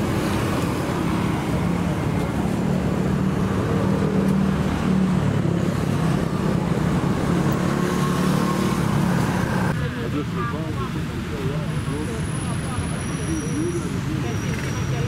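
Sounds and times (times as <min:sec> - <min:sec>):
road traffic: 0:00.0 - 0:15.0
vehicle engines humming: 0:00.0 - 0:15.0.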